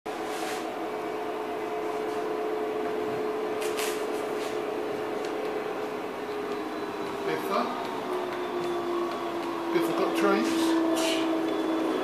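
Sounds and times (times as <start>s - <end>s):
diesel engine drone through speaker: 0.1s - 12.0s.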